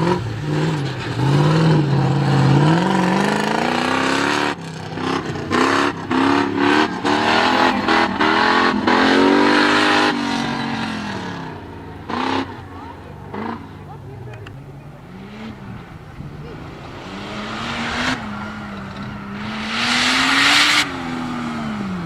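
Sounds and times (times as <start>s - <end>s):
engine revving hard: 0.0s - 12.6s, 16.4s - 22.0s.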